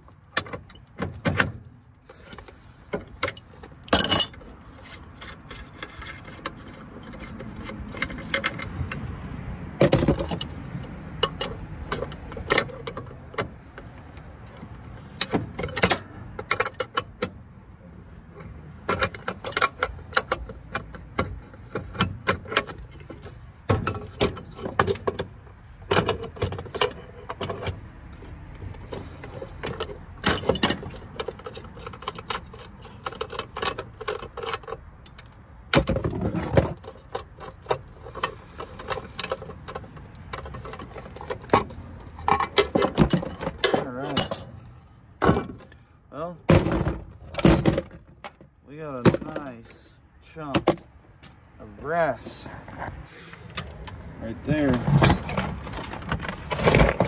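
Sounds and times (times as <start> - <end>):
metal parts clinking: 0.1 - 9.2, 9.8 - 17.5, 18.4 - 27.8, 28.8 - 51.0.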